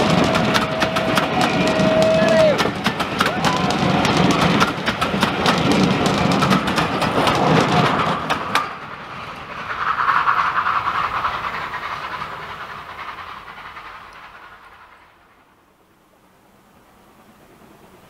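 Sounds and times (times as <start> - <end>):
wheels clicking over rail joints: 0.0 - 15.6
train rumble: 0.0 - 18.0.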